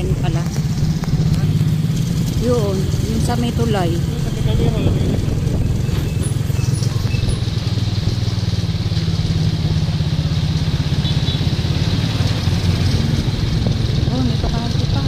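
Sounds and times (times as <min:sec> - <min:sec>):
road noise: 0:00.0 - 0:15.0
vehicle engine rumbling: 0:00.0 - 0:15.0.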